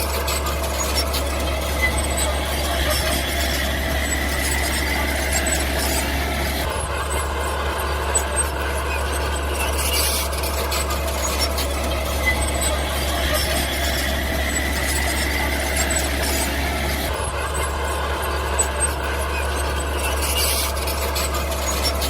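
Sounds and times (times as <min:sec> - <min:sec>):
small metal ticks and clanks: 0:00.0 - 0:06.0, 0:06.6 - 0:22.0
bulldozer engine running: 0:00.0 - 0:22.0
high metallic squeal: 0:00.0 - 0:22.0.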